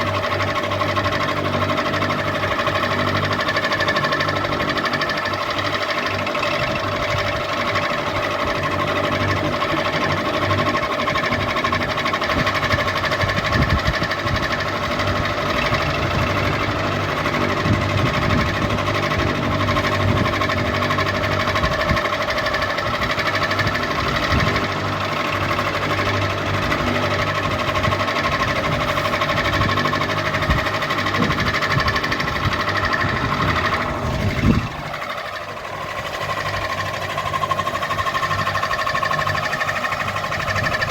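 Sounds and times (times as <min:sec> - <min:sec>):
ceiling fan humming and rattling: 0:00.0 - 0:40.9.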